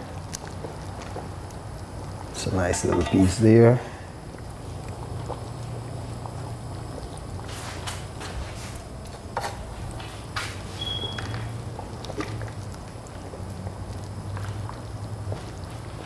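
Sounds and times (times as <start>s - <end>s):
liquid boiling in a pot: 0.0s - 16.0s.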